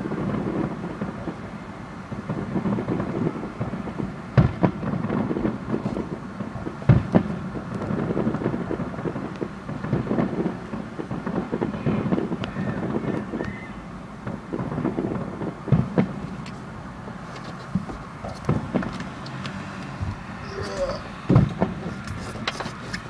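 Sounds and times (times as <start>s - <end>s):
sharp firework bangs: 0.0s - 22.1s
fireworks booming: 0.0s - 23.0s.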